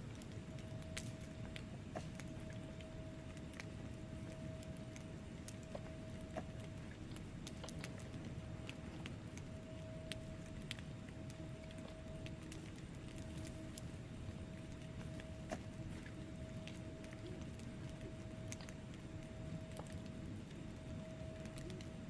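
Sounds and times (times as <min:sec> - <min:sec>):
faint steady tone: 0:00.0 - 0:22.0
low fire rumble: 0:00.0 - 0:22.0
wood fire crackling and popping: 0:00.0 - 0:22.0.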